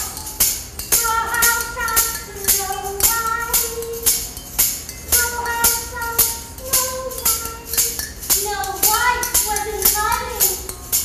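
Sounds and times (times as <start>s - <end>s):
tambourine beat: 0.0s - 11.0s.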